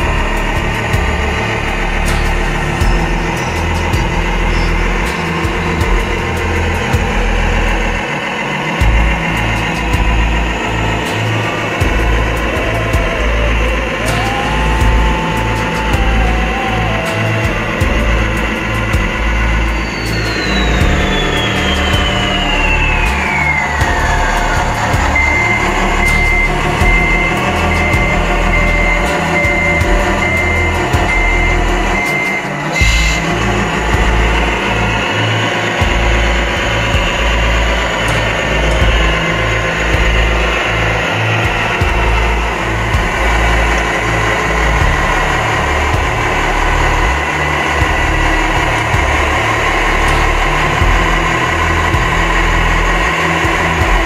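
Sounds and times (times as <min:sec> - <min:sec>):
engine running low: 0:00.0 - 0:54.0
motor whine: 0:00.0 - 0:54.0
reversing beeper: 0:00.0 - 0:54.0.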